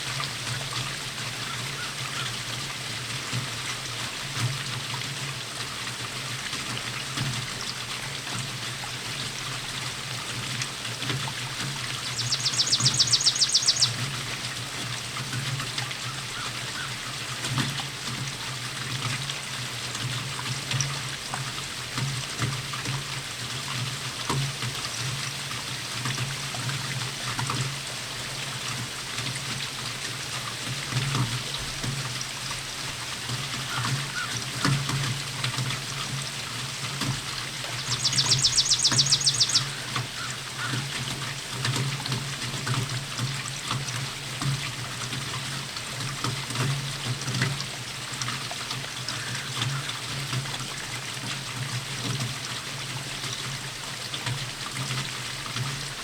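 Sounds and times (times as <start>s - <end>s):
rainfall: 0.0s - 56.0s
water pouring and trickling: 0.0s - 56.0s.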